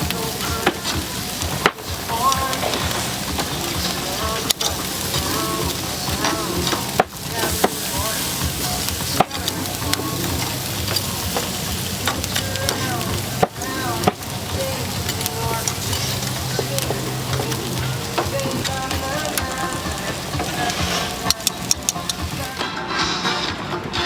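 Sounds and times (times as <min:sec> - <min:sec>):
stirring: 0:00.0 - 0:22.6
food sizzling: 0:00.0 - 0:24.0.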